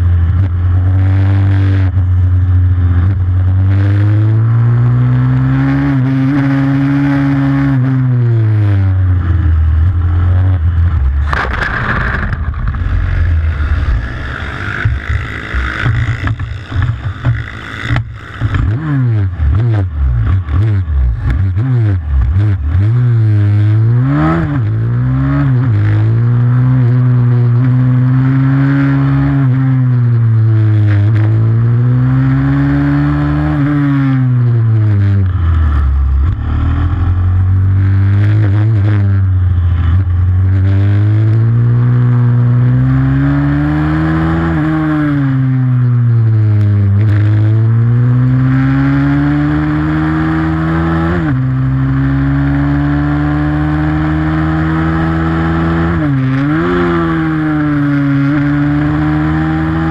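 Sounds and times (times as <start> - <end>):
pit bike engine racing: 0.0 - 59.9.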